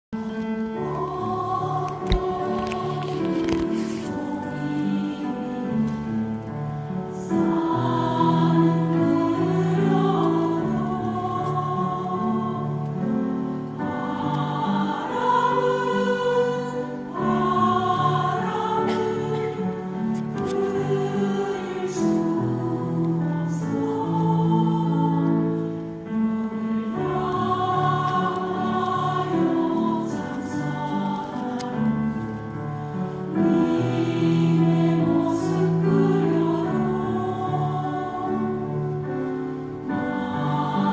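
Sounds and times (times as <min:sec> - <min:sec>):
choir singing a hymn: 0:00.2 - 0:40.9.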